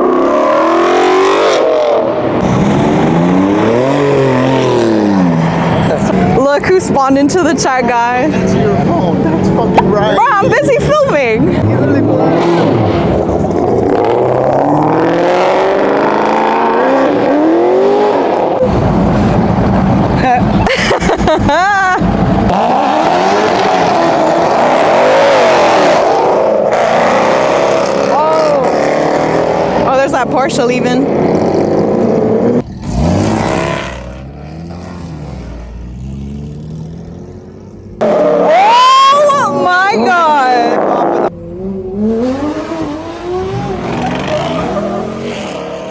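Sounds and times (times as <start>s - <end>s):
car accelerating hard: 0.0s - 45.9s.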